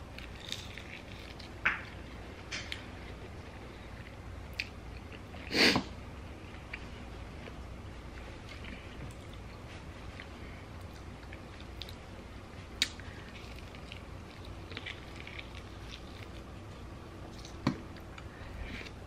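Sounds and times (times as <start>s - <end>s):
wet chewing and smacking: 0.0s - 5.5s, 6.4s - 19.0s.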